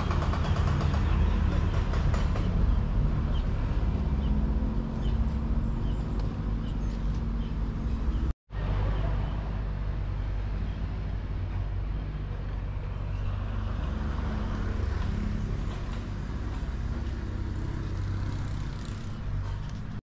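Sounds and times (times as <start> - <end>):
outdoor noise: 0.0 - 20.0.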